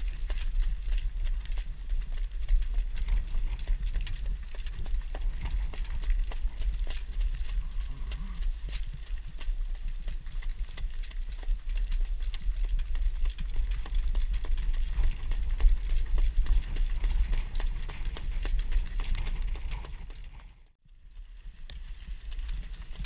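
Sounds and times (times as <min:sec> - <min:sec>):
horse hooves on dirt track: 0:00.0 - 0:23.0
wind rumble on microphone: 0:00.0 - 0:23.0.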